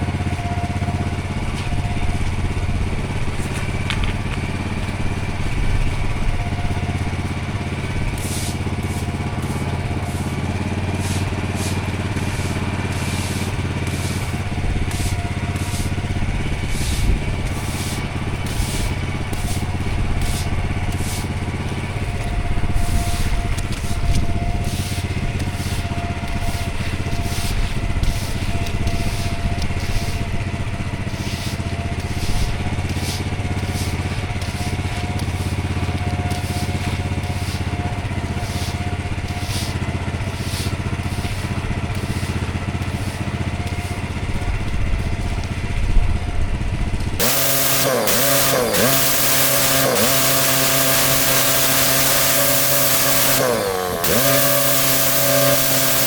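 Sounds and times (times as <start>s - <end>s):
water jet hissing on paving: 0.0s - 45.5s, 47.2s - 56.0s
pressure washer engine running: 0.0s - 56.0s.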